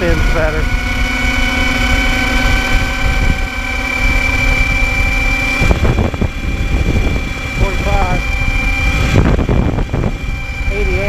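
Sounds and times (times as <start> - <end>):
electric motorcycle whine: 0.0 - 11.0.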